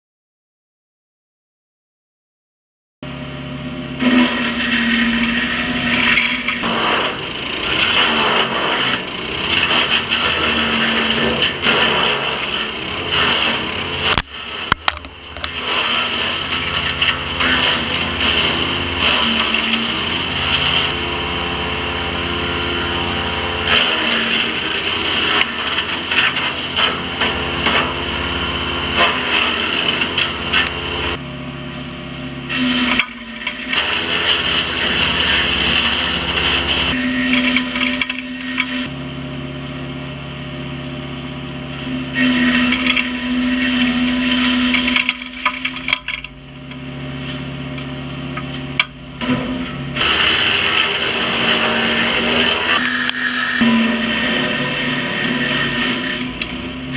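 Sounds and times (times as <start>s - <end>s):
wood chipper engine running: 3.0s - 56.9s
wood crackling and splintering: 4.0s - 21.0s, 23.6s - 38.9s, 41.7s - 56.9s.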